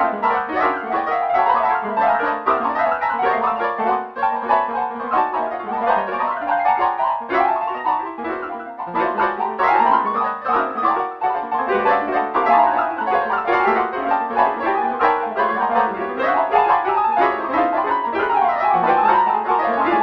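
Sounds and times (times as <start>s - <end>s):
synthesized piano melody: 0.0s - 20.0s.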